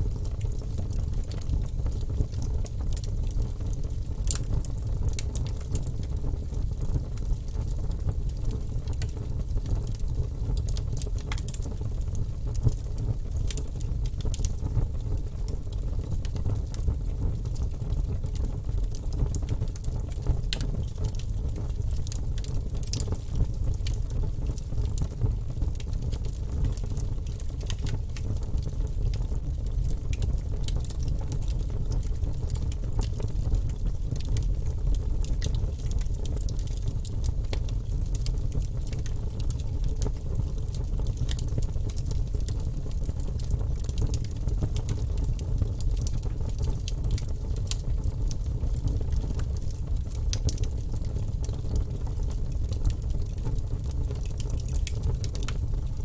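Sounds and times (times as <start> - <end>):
wood fire burning in fireplace: 0.0 - 56.0.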